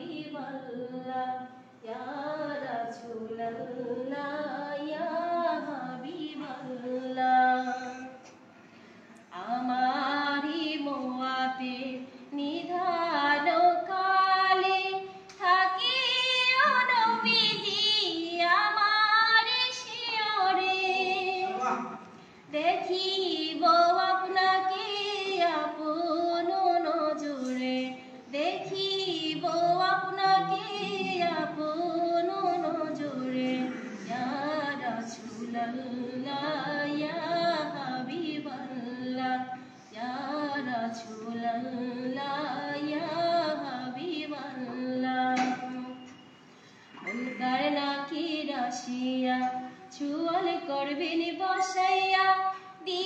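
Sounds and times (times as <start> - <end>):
woman singing unaccompanied: 0.0 - 8.2, 9.3 - 21.6, 22.5 - 46.0, 47.2 - 53.0.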